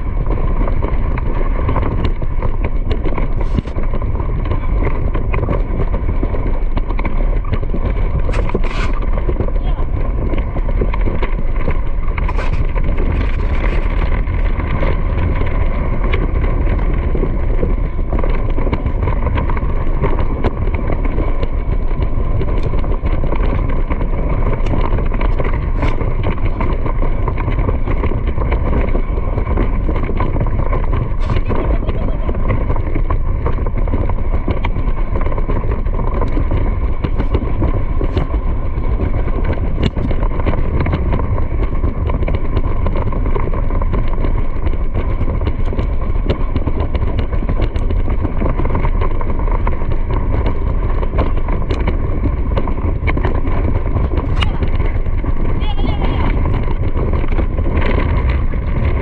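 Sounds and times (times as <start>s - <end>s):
vehicle running rumble: 0.0s - 59.0s.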